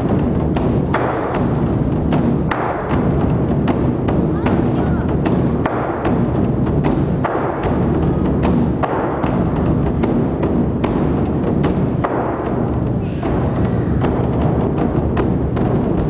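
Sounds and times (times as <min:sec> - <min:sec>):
continuous low rumble: 0:00.0 - 0:16.0
large drums struck: 0:00.0 - 0:16.0.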